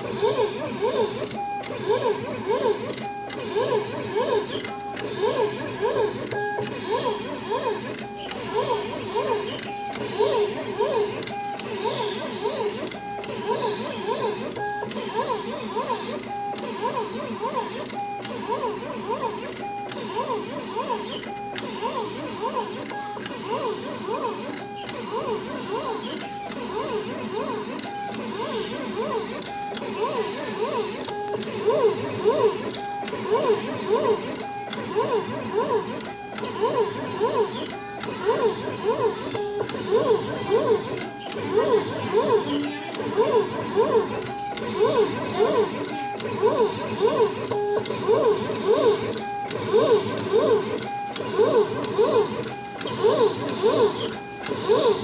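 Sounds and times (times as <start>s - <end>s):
cutting plotter motors whining: 0.0s - 55.0s.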